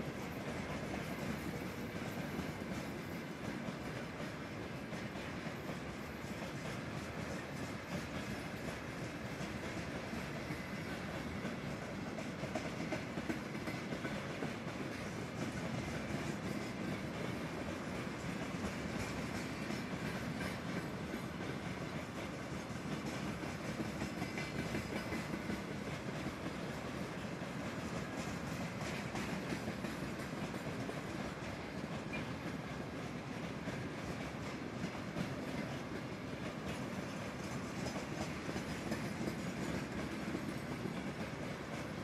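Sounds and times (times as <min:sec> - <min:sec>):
train wheels rumbling on rails: 0:00.0 - 0:42.0
wheels clacking over rail joints: 0:00.0 - 0:42.0.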